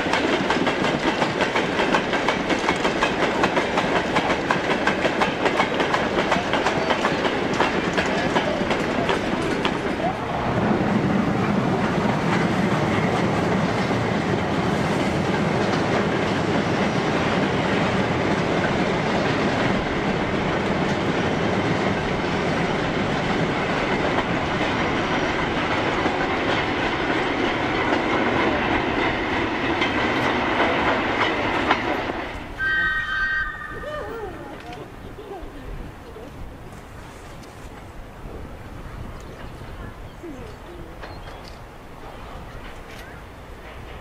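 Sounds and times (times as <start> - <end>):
goods train rumbling and clattering: 0.0 - 32.6, 33.6 - 44.0.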